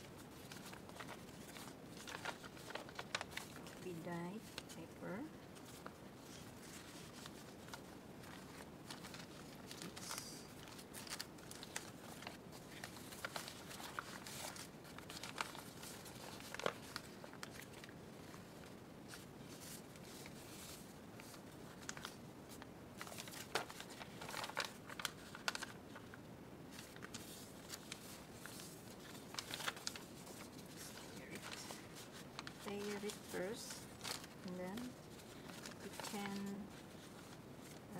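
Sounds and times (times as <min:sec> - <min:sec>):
paper rustling and crinkling: 0:00.0 - 0:37.9.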